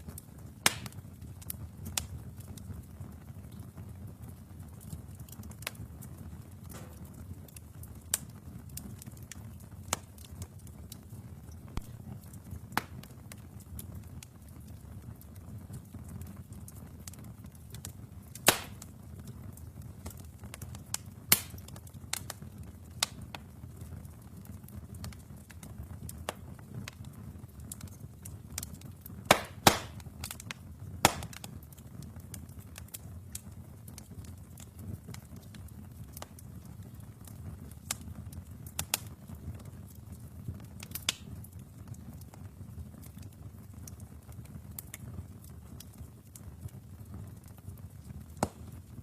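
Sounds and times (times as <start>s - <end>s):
fire flames rumbling: 0.0s - 49.0s
logs crackling and popping: 0.0s - 49.0s.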